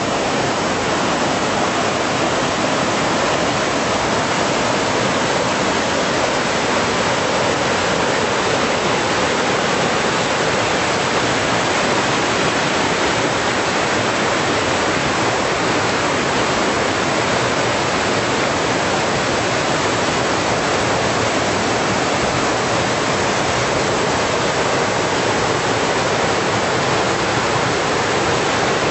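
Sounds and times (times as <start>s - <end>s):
water rushing: 0.0s - 28.9s.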